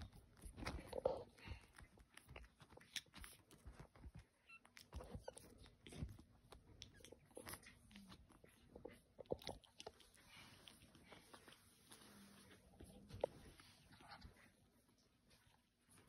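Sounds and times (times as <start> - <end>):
puppies play-biting and scuffling: 0.0 - 16.0.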